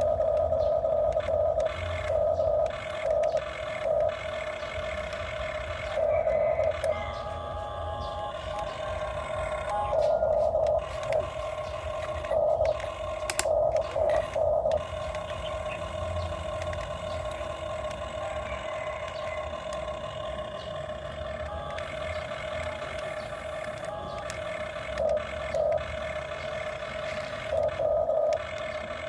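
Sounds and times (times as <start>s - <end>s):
excavator mechanical whine: 0.0s - 29.0s.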